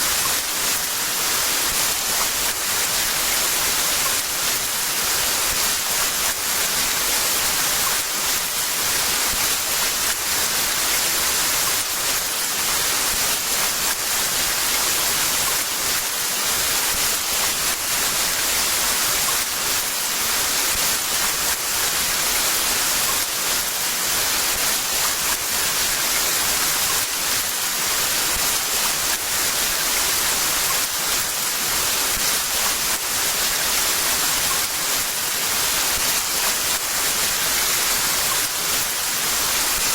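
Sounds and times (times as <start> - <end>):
patter of raindrops: 0.0 - 39.9.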